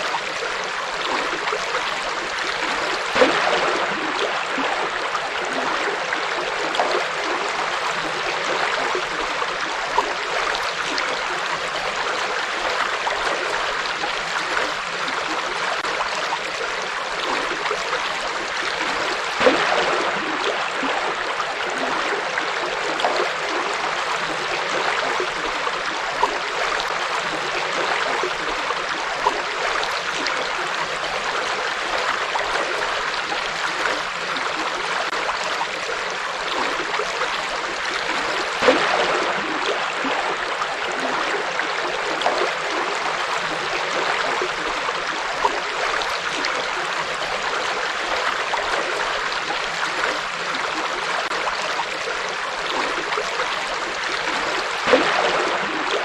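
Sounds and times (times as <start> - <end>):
river water flowing over rocks: 0.0 - 56.0
water splashing and gurgling: 0.0 - 56.0.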